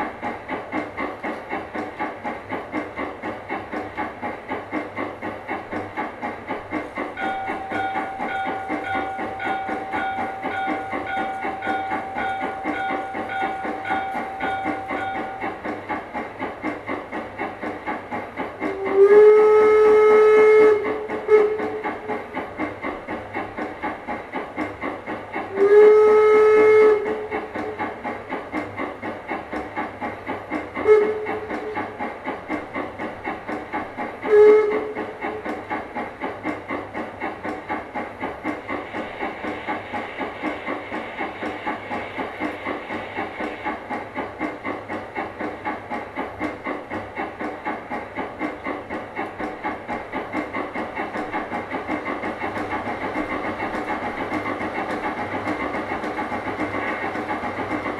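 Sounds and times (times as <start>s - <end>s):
steam exhaust chuffs: 0.0s - 57.9s.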